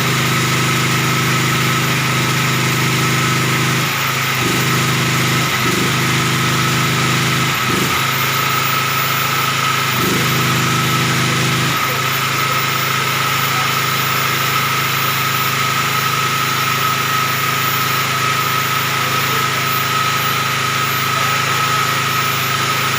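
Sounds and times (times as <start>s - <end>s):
portable generator running: 0.0s - 22.9s.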